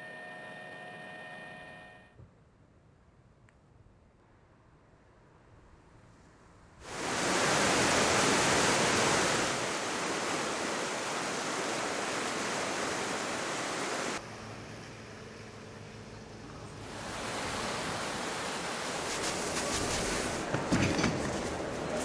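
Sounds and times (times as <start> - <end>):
steady rushing outdoor noise: 2.4 - 22.0.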